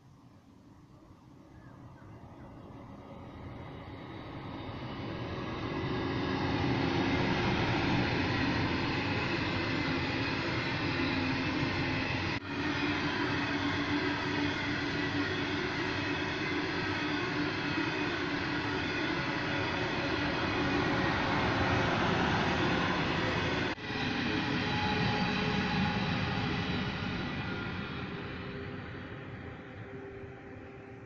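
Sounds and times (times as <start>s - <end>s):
train rumble and wheel clatter: 2.5s - 31.0s.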